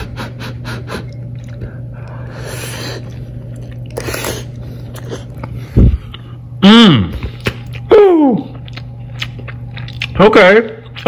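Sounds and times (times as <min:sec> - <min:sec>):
low hum: 0:00.0 - 0:11.0
person eating: 0:00.0 - 0:11.0.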